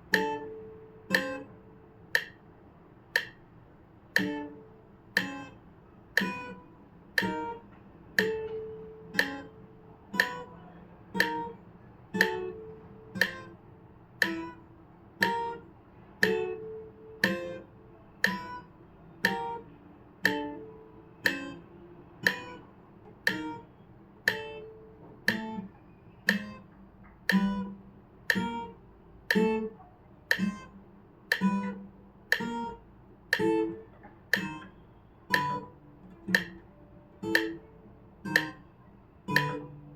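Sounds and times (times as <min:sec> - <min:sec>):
metronome clicking: 0:00.0 - 0:03.5, 0:04.1 - 0:13.6, 0:14.2 - 0:39.9
guitar plucked notes: 0:00.0 - 0:39.9.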